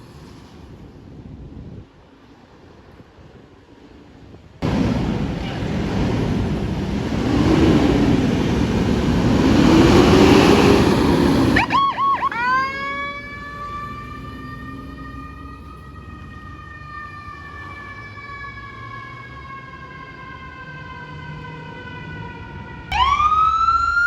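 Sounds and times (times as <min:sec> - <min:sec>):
engine and road noise: 0:00.0 - 0:24.0
emergency vehicle siren: 0:04.6 - 0:24.0.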